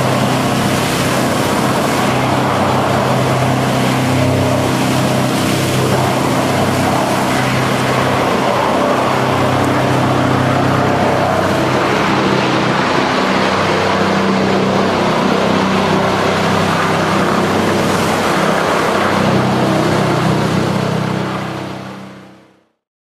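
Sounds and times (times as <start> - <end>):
wood chipping machinery drone: 0.0 - 22.3.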